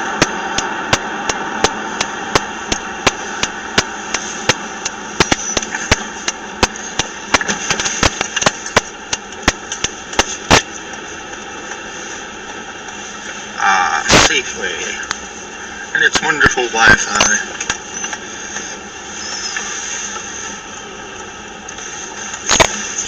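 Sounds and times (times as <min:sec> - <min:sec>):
car cabin hum: 0:00.0 - 0:23.0.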